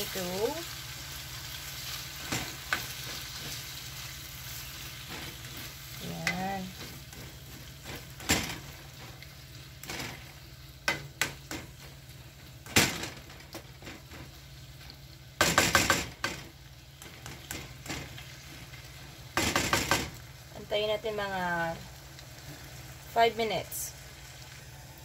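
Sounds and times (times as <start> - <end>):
food sizzling in frying pan: 0.0 - 25.0.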